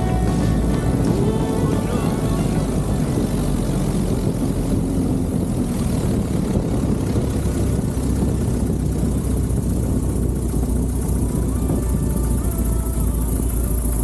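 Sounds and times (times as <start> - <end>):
propeller airplane engine droning: 0.0 - 14.0.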